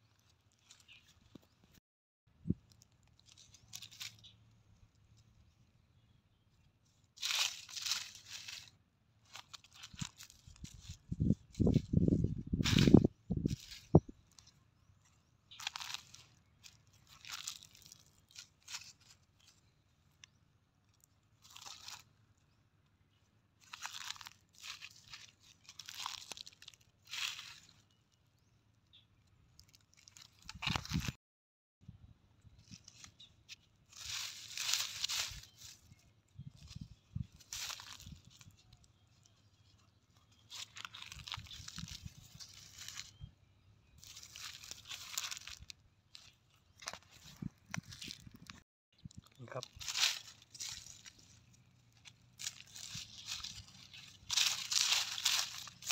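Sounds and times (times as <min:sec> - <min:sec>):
footsteps crunching dry leaves: 0:00.1 - 0:01.6, 0:02.6 - 0:04.4, 0:07.2 - 0:19.7, 0:21.1 - 0:22.1, 0:23.6 - 0:28.0, 0:29.6 - 0:31.2, 0:32.6 - 0:43.2, 0:43.9 - 0:55.9.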